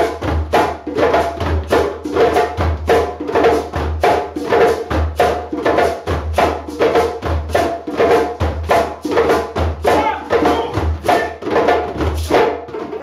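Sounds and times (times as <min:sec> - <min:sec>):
djembe drums playing: 0:00.0 - 0:13.0.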